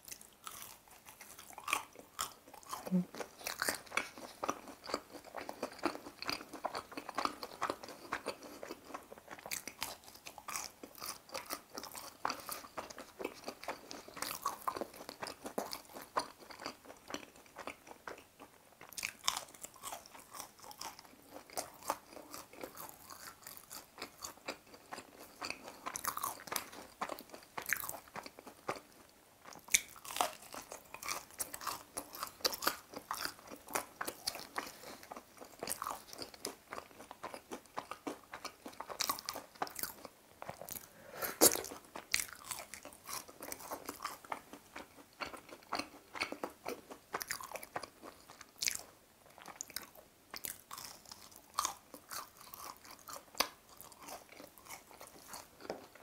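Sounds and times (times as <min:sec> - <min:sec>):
crunchy bites and chewing: 0:00.0 - 0:56.0.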